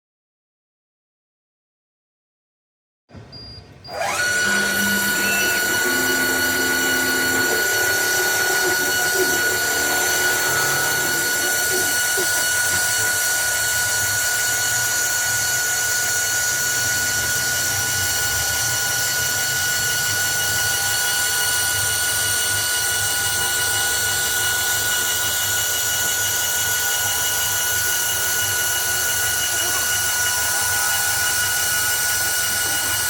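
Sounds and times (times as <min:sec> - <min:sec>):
high machine whine over hiss: 0:03.9 - 0:33.0
wood-turning lathe running: 0:03.9 - 0:33.0.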